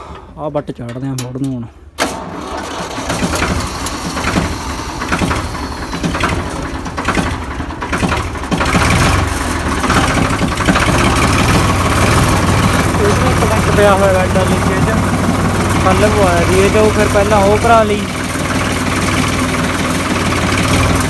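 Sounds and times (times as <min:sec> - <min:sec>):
tractor diesel engine running: 0:02.0 - 0:21.0.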